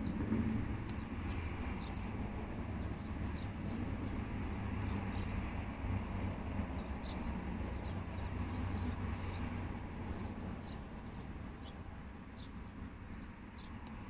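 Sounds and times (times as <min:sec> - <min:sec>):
small birds chirping: 0:00.8 - 0:14.0.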